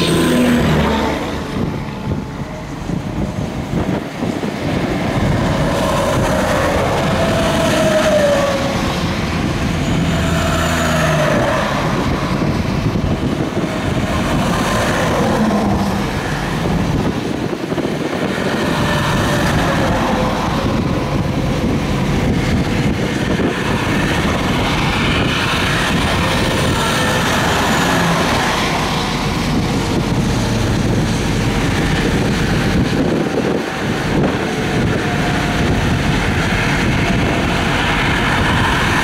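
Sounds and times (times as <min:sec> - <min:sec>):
highway traffic rushing: 0:00.0 - 0:39.0
vehicle passing by: 0:00.0 - 0:39.0.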